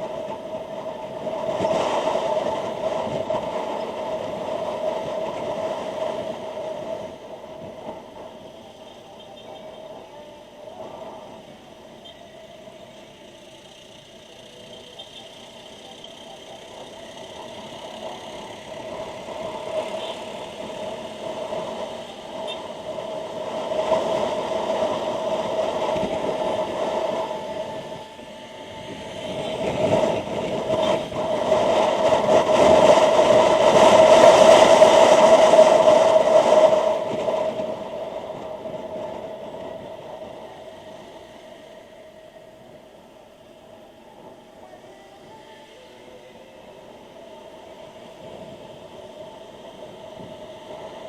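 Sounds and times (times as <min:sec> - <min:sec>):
wind rush: 0:00.0 - 0:08.8, 0:16.7 - 0:51.0.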